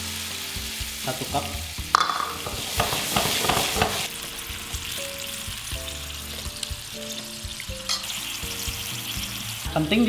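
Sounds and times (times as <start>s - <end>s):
paste sizzling in a wok: 0.0s - 10.0s
soft background music: 0.0s - 10.0s.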